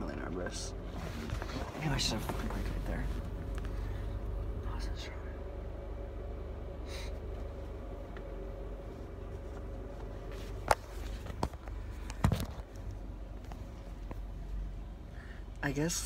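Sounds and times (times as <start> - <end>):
vehicle cabin hum: 0.0 - 16.0.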